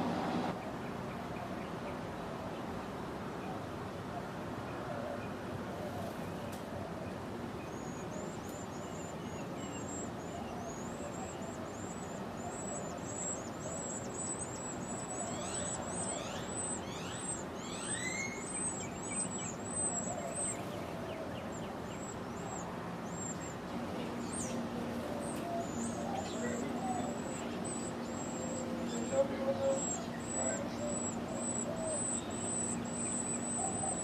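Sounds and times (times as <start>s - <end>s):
low background noise: 0.0s - 34.0s
small birds chirping: 4.7s - 34.0s.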